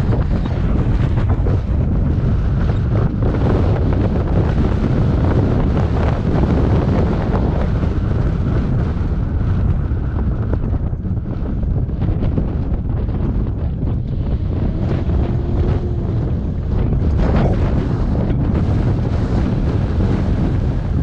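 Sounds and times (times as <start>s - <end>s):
vehicle engine rumble: 0.0s - 21.0s
wind buffeting microphone: 0.0s - 21.0s.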